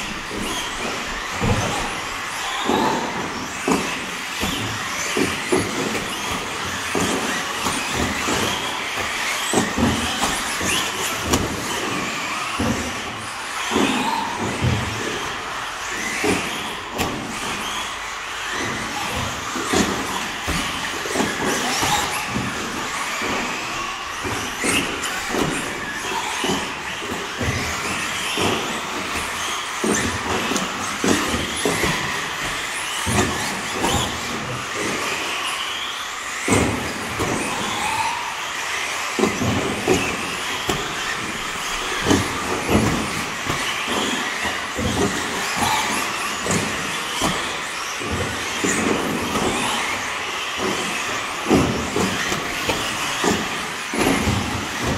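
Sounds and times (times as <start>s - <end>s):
electric rc car motors whining: 0.0s - 54.9s.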